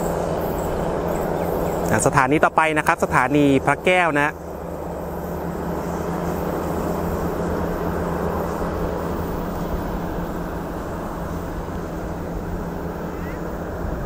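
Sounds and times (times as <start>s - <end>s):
diesel train engine humming: 0.0s - 14.0s
wheels rumbling on rail: 0.0s - 14.0s.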